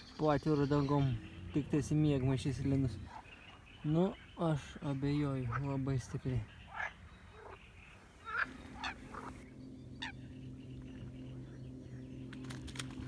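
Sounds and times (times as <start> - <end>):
steady low hum: 0.0 - 13.0
water birds swooping calls: 0.0 - 13.0.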